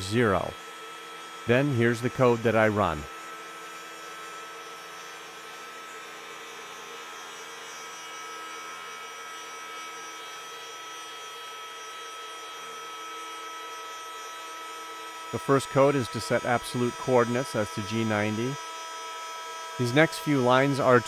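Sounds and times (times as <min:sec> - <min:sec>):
router spindle motor humming: 0:00.0 - 0:21.0.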